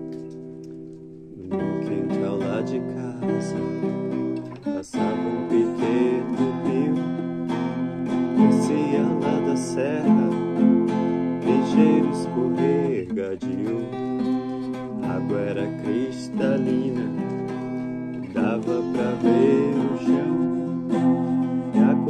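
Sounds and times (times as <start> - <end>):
twelve-string acoustic guitar: 0.0 - 22.0.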